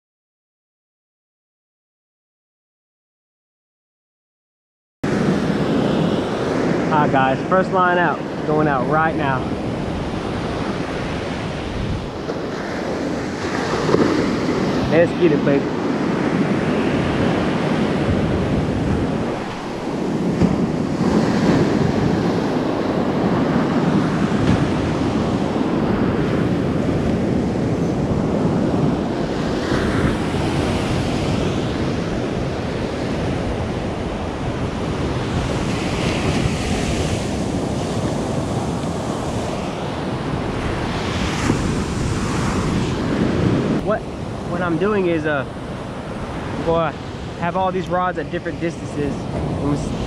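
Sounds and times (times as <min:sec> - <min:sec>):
wind rumbling on microphone: 0:05.0 - 0:50.0
ocean surf breaking on beach: 0:05.1 - 0:50.0.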